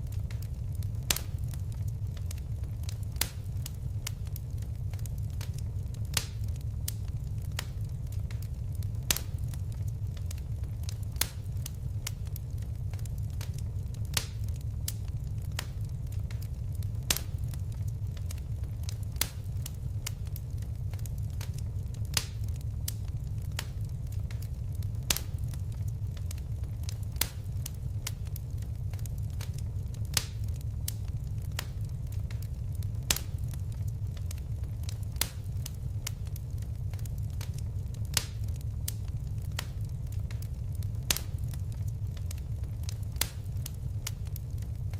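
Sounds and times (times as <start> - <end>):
fireplace fire crackling: 0.0 - 44.9.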